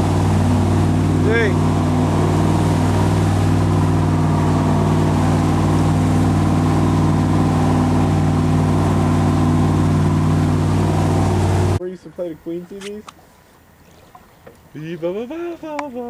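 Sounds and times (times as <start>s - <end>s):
boat motor droning: 0.0s - 16.0s.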